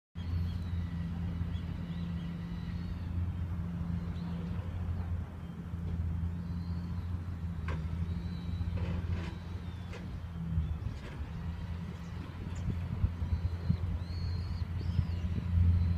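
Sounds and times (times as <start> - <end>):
vehicle engine humming: 0.2 - 15.9.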